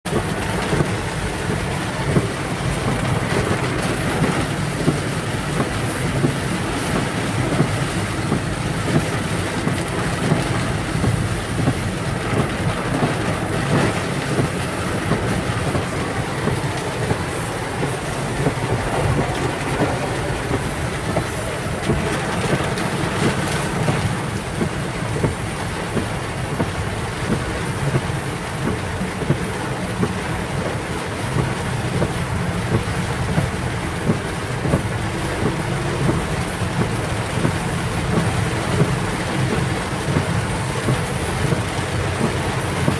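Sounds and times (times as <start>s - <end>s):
heavy rain pelting a car: 0.0s - 42.9s.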